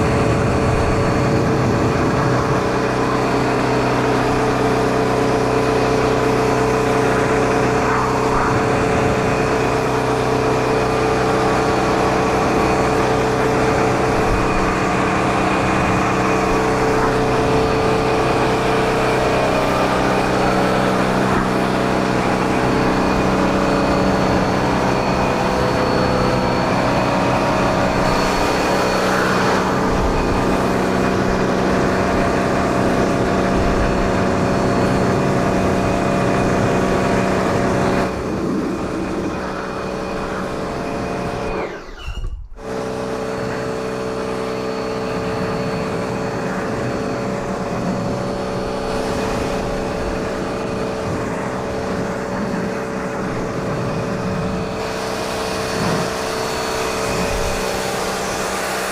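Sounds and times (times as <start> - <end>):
pressure washer motor humming: 0.0 - 42.0, 42.6 - 58.9.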